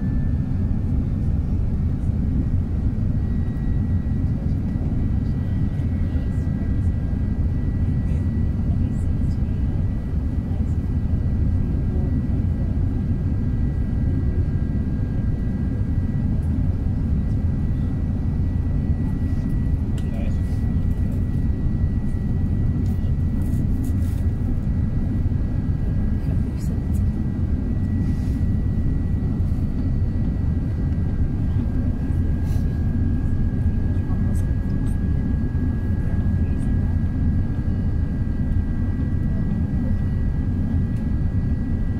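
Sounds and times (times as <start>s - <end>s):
airplane cabin rumble: 0.0s - 41.9s.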